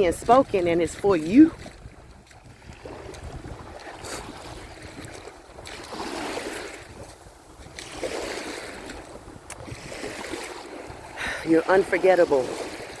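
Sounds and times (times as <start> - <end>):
ocean surf washing onto beach: 0.0 - 13.0
wind rumbling on microphone: 0.0 - 13.0.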